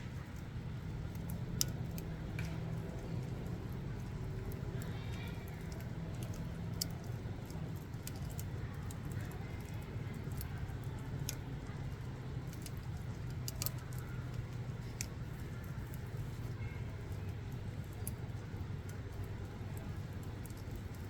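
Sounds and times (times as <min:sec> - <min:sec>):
burning wood crackling and popping: 0:00.0 - 0:21.0
fire low rumble: 0:00.0 - 0:21.0.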